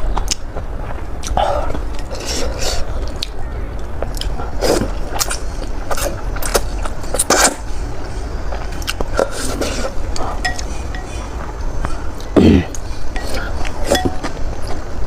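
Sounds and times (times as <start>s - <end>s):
person chewing noodles: 0.0s - 14.8s.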